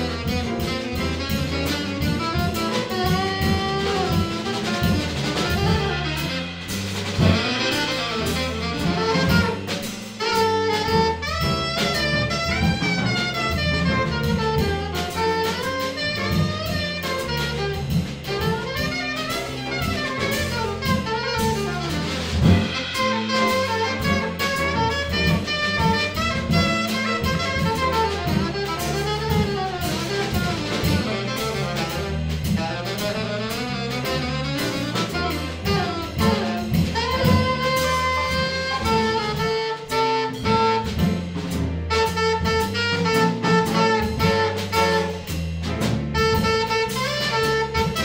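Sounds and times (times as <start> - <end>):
alto saxophone: 0.0 - 48.0
drum kit with cymbals: 0.0 - 48.0
grand piano: 0.0 - 48.0.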